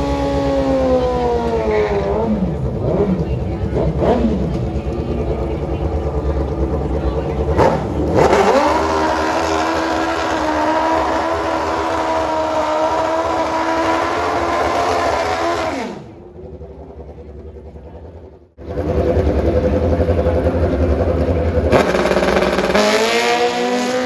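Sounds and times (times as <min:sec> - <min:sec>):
drag racing engine revving: 0:00.0 - 0:24.0.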